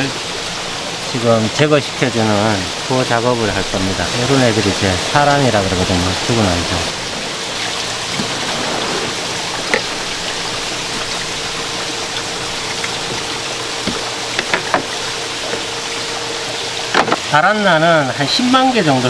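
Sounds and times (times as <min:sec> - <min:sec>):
water running: 0:00.0 - 0:19.0.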